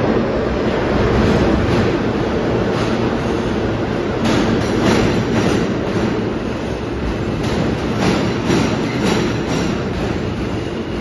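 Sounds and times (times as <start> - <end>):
subway train rumbling past: 0.0 - 11.0
wheels clacking over rail joints: 1.2 - 11.0.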